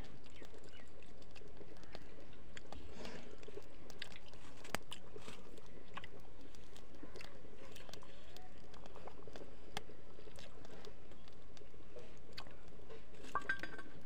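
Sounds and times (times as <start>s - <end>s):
close-up chewing: 0.0s - 14.0s.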